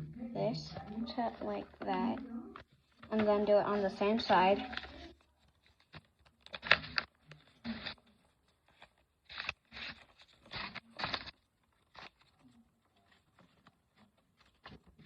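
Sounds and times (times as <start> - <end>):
paper being folded: 0.8 - 15.0.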